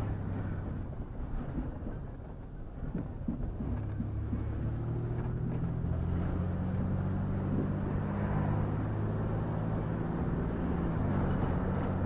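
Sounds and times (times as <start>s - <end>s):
vehicle engine running: 0.0s - 2.1s, 2.8s - 12.0s.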